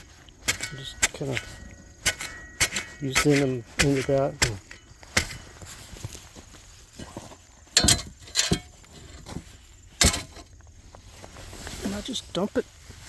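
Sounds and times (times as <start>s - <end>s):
sharp crunches on gravel: 0.0s - 13.0s.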